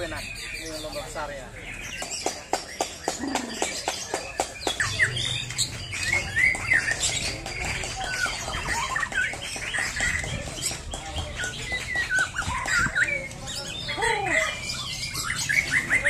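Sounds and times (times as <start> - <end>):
birds whistling and chirping: 0.0 - 16.0.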